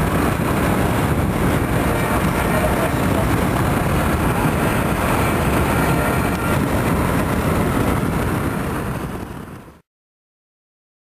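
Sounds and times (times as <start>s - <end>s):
car road and wind noise: 0.0s - 9.8s.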